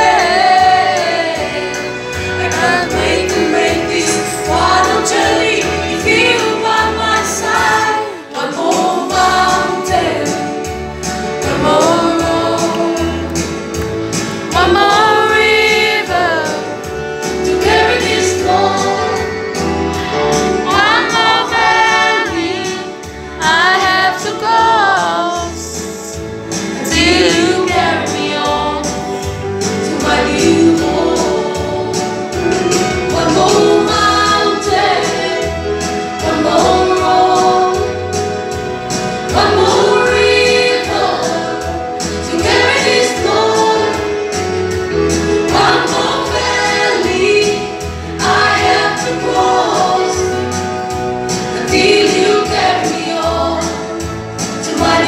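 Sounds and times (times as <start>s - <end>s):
voices singing together: 0.0s - 55.0s.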